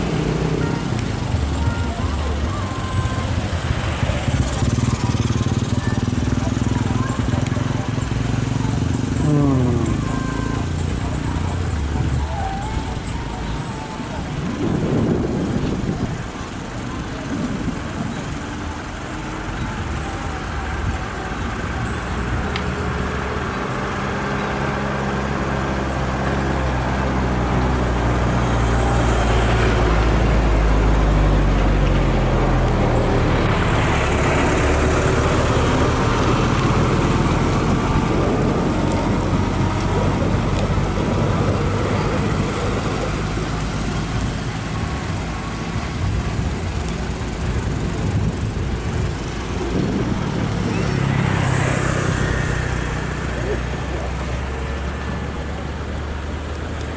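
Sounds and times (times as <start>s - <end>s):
engine humming: 0.0s - 56.9s.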